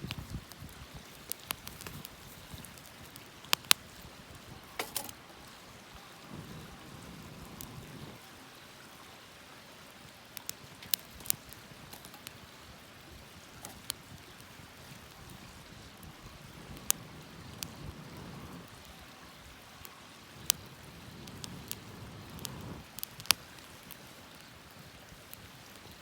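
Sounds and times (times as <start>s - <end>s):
campfire crackling: 0.0s - 26.0s
faint low hiss: 0.0s - 26.0s.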